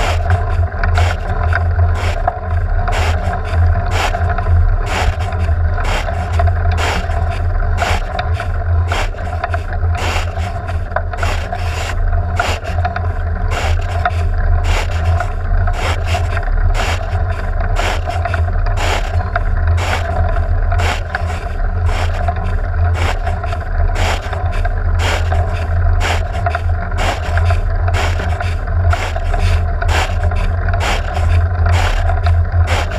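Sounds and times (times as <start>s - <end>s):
windshield wipers scraping: 0.0s - 32.9s.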